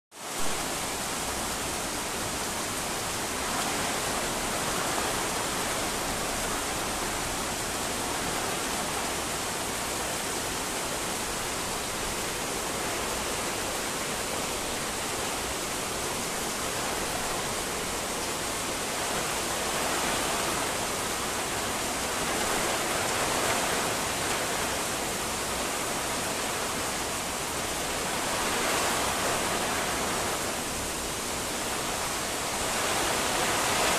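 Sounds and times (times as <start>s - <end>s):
heavy rain on foliage: 0.1s - 33.9s
strong wind in trees: 0.1s - 33.9s.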